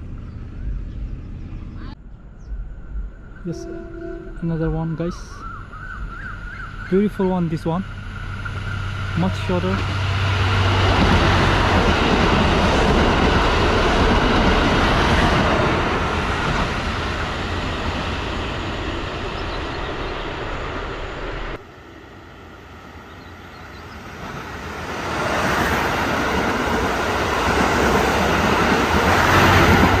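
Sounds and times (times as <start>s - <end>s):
train wheels rumbling on track: 2.5s - 30.0s.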